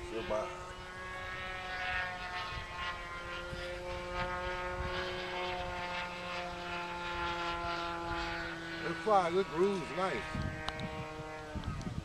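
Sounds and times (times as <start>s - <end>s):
model airplane engine buzzing: 0.0s - 12.0s
wind rumble on microphone: 0.0s - 12.0s.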